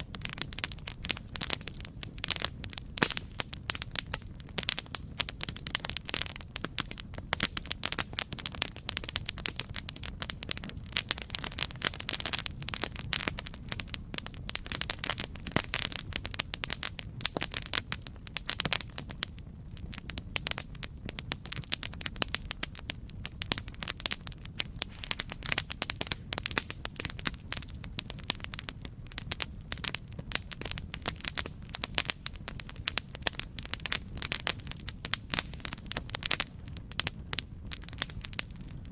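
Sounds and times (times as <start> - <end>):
campfire crackling: 0.0 - 38.9
low rumble of flame: 0.0 - 38.9.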